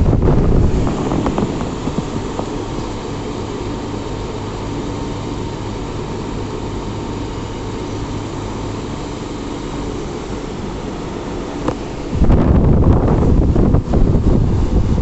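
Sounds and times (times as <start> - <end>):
faint high whine: 0.0 - 14.5
machinery drone: 0.0 - 15.0.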